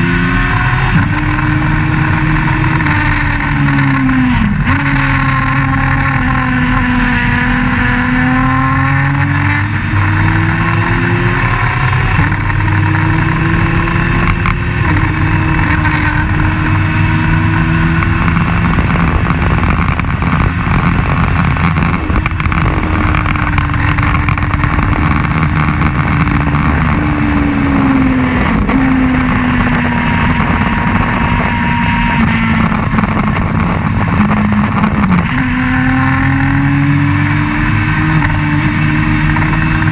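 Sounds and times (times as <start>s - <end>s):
race car engine running hard: 0.0s - 39.9s
wind noise: 0.0s - 39.9s.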